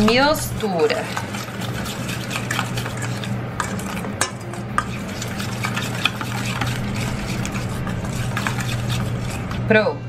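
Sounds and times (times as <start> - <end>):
metal spoon scraping steel bowl: 0.0 - 9.7.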